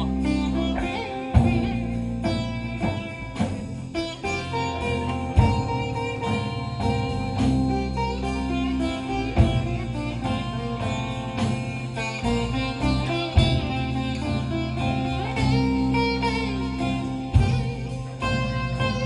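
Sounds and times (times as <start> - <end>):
guitar: 0.0 - 19.0
live band playing: 0.0 - 19.0.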